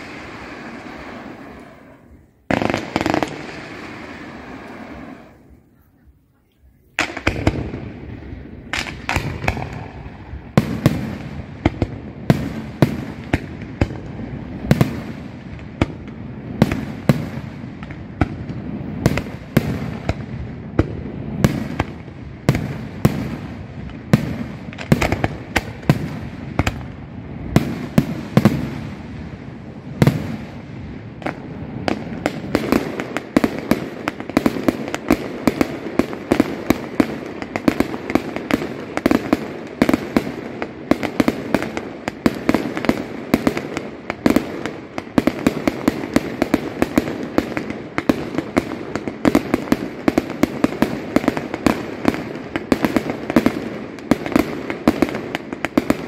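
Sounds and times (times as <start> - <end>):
fireworks bangs: 0.0 - 5.7, 6.8 - 56.0.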